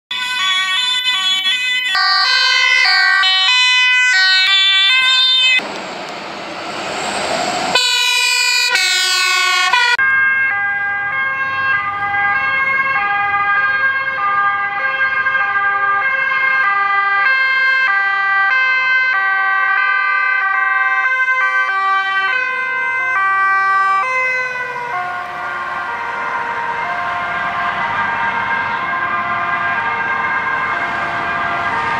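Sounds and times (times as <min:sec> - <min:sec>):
police car two-tone sirens: 0:00.1 - 0:31.9
passing vehicle engine and road noise: 0:00.3 - 0:31.9.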